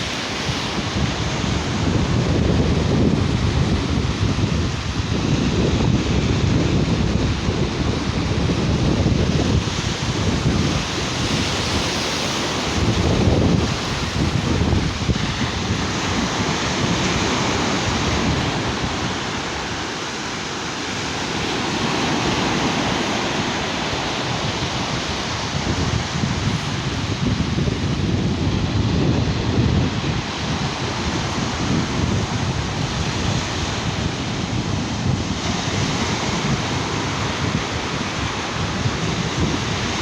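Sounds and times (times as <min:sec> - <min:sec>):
sea waves washing onto beach: 0:00.0 - 0:40.0
wind buffeting microphone: 0:00.0 - 0:40.0.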